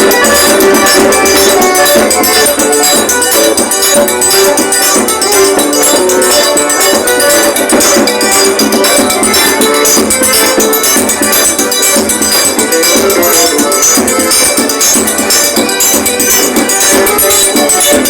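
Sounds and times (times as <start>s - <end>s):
folk trio music: 0.0s - 18.0s
percussion beat: 0.0s - 18.0s.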